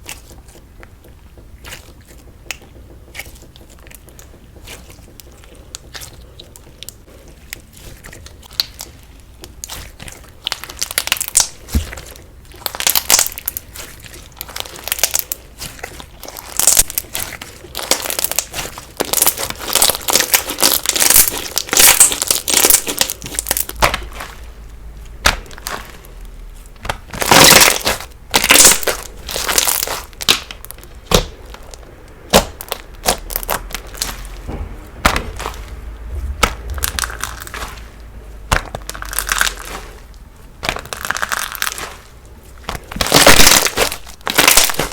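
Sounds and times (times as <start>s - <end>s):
slime crunching and crackling: 0.0s - 44.9s.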